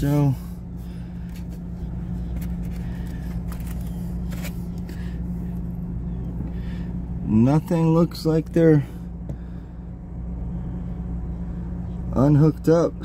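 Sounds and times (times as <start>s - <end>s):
portable generator humming: 0.0s - 13.0s.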